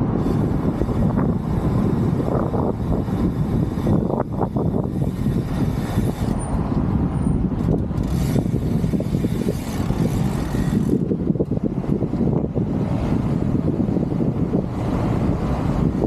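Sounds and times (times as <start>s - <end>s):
cars and vans passing close: 0.0s - 16.0s
wind buffeting microphone: 0.0s - 16.0s.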